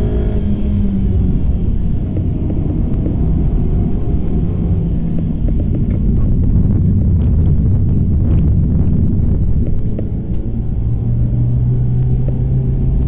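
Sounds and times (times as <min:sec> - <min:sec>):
car engine from inside cabin: 0:00.0 - 0:13.0
road rumble: 0:00.0 - 0:13.0.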